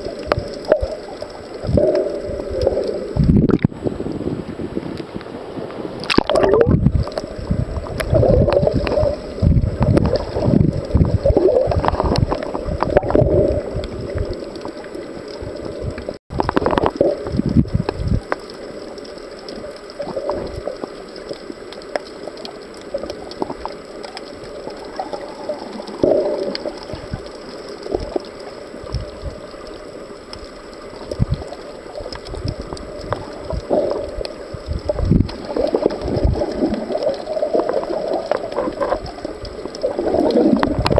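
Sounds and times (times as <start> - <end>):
underwater rush: 0.0 - 40.9
water sloshing and gurgling: 0.0 - 40.9.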